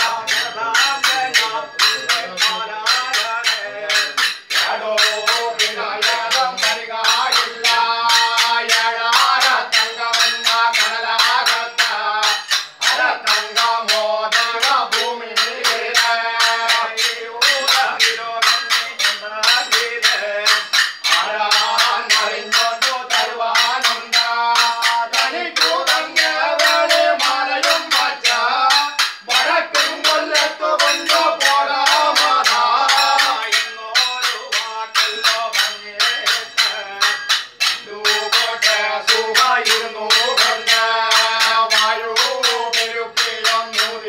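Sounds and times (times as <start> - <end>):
fast percussive strikes: 0.0 - 44.0
men singing chanted melody: 0.0 - 44.0.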